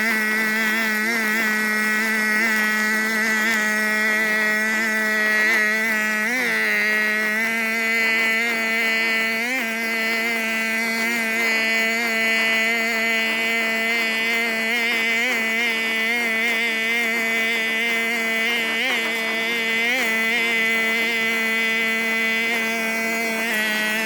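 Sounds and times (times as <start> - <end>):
brush cutter engine running: 0.0 - 24.0.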